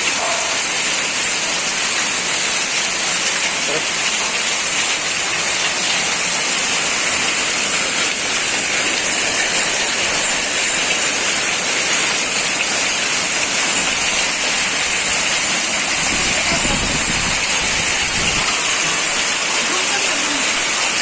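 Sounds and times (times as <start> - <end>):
heavy rain and hail: 0.0 - 21.0.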